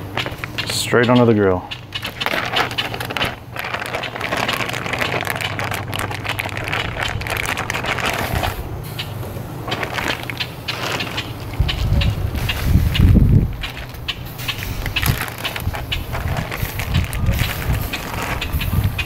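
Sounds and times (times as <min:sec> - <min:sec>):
plastic bag crinkling: 0:02.0 - 0:08.8, 0:09.5 - 0:18.6.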